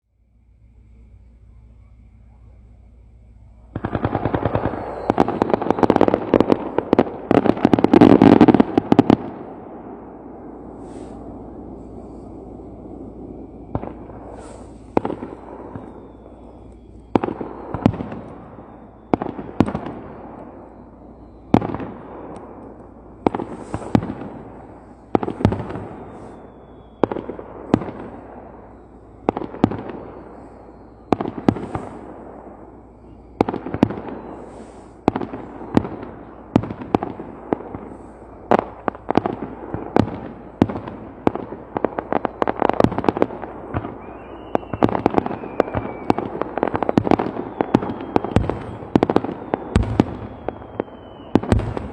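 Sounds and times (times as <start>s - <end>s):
fireworks bursting with echoes: 0.2s - 51.9s.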